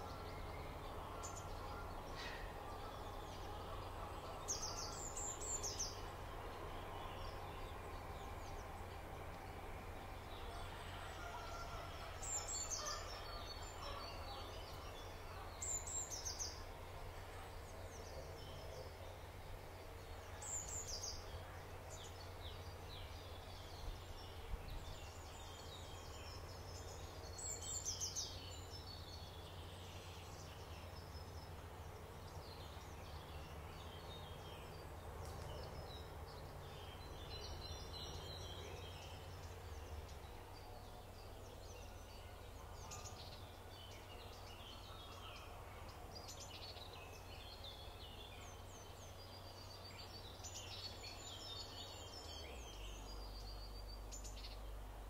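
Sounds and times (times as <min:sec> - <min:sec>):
birds chirping and trilling: 0:00.0 - 0:09.2, 0:10.1 - 0:16.8, 0:17.5 - 0:54.9.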